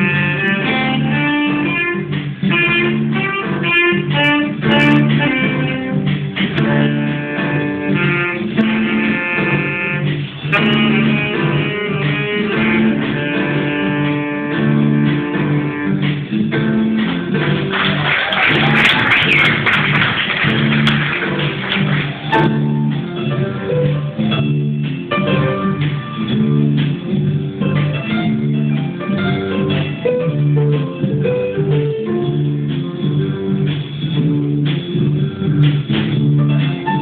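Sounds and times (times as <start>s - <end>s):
rock-pop band playing: 0.0s - 37.0s.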